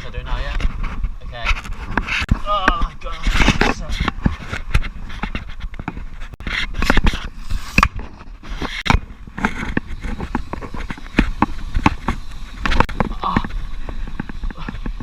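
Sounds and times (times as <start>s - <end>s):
scraping noises: 0.0s - 15.0s.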